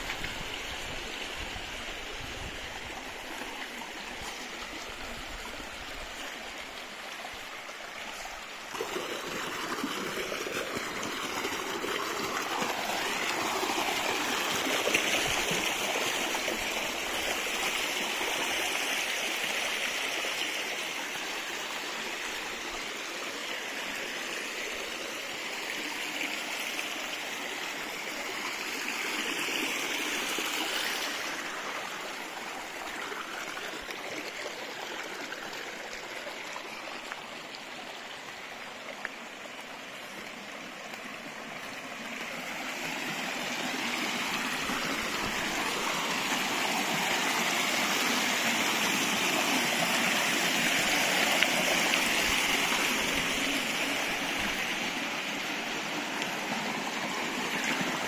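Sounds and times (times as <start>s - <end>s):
stream burbling over rocks: 0.0s - 58.0s.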